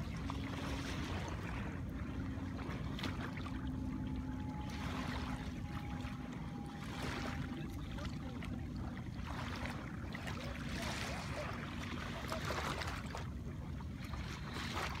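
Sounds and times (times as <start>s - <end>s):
water splashing from wading: 0.0s - 15.0s.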